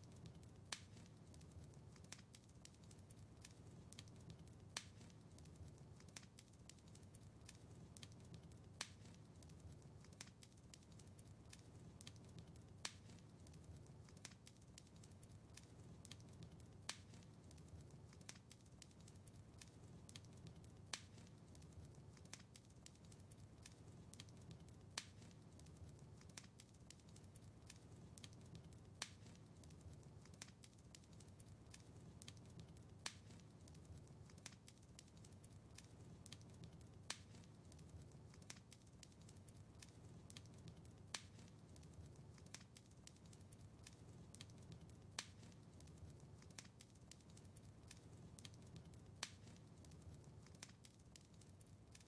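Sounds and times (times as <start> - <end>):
faint wood fire crackling: 0.0 - 52.0.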